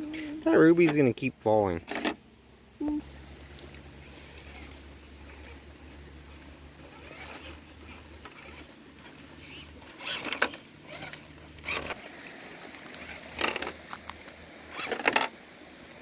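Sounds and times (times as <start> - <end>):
rustling crunches in dry leaves: 3.0 - 16.0.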